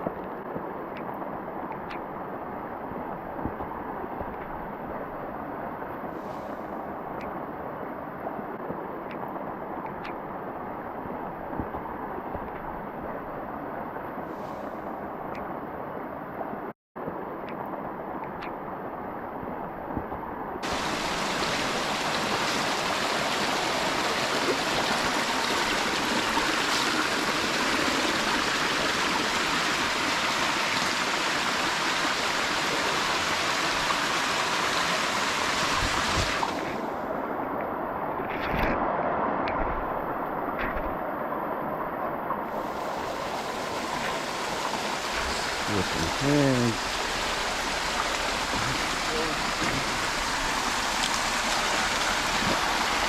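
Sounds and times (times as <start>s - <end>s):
waterfall and stream rushing: 0.0s - 53.0s.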